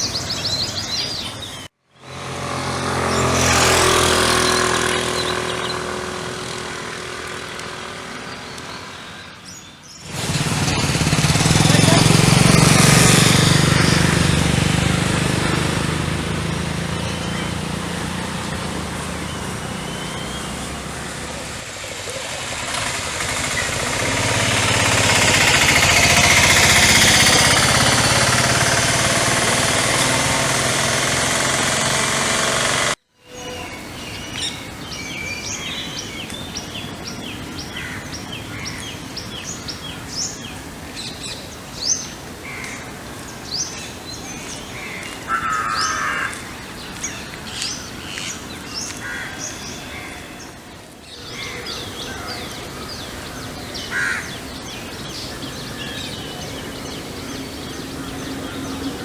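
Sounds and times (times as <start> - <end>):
small birds chirping: 0.0 - 1.8, 2.7 - 59.0
road traffic rushing: 0.0 - 59.0.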